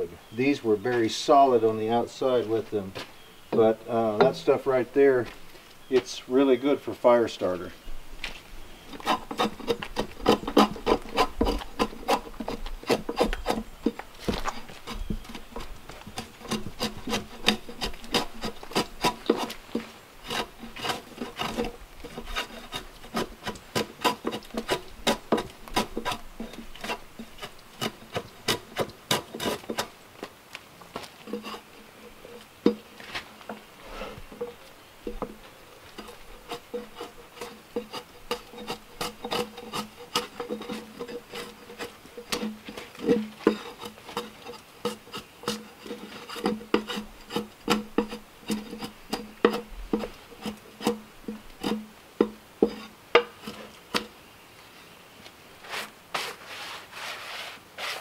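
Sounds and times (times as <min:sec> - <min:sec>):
drawknife scraping bark: 0:08.8 - 0:29.9, 0:31.0 - 0:54.1, 0:55.6 - 0:58.0.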